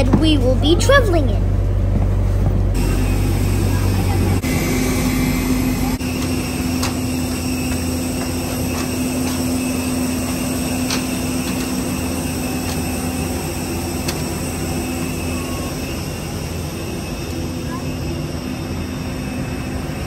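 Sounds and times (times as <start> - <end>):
bus engine hum from inside: 0.0 - 20.0.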